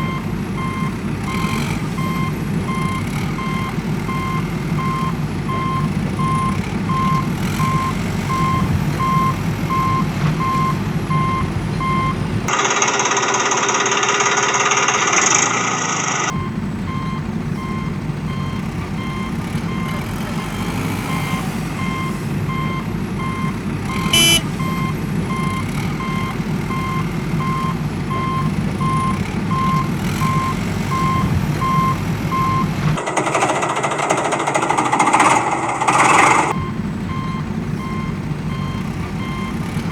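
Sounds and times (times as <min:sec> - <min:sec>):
reversing alarm beeping: 0:00.0 - 0:12.6, 0:16.3 - 0:33.6, 0:34.3 - 0:39.9
diesel engine running: 0:00.0 - 0:39.9.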